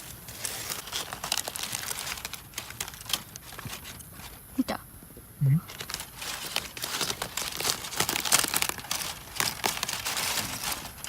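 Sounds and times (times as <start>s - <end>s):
aluminium foil crinkling: 0.0s - 4.4s, 5.7s - 11.0s.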